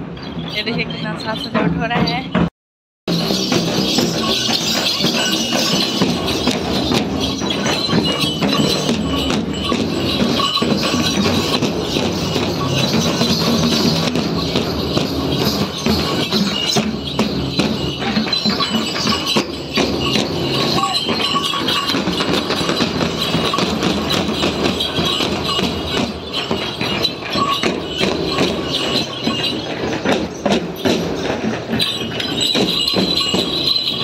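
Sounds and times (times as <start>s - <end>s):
bells jingling: 0.0s - 2.5s, 3.1s - 34.0s
drumming: 0.0s - 2.5s, 3.1s - 34.0s.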